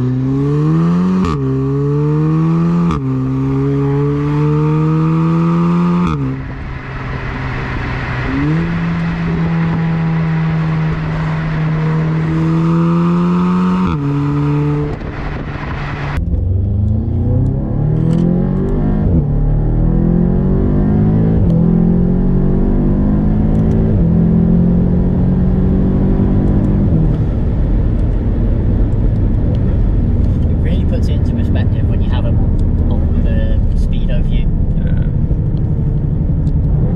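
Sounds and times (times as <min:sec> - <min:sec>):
car engine revving with gear shifts: 0:00.0 - 0:36.9.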